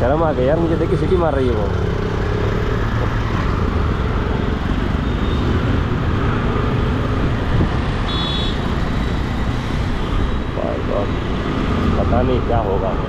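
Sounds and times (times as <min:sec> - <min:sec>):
passing cars and motorbikes: 0:00.0 - 0:13.0.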